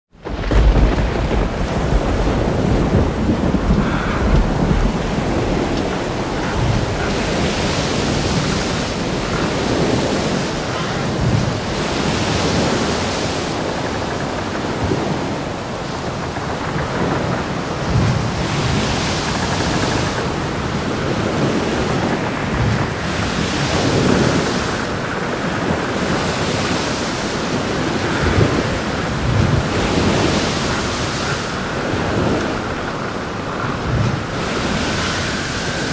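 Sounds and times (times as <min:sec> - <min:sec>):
rain: 0:00.1 - 0:35.9
sea: 0:00.1 - 0:35.9
wind: 0:00.1 - 0:35.9.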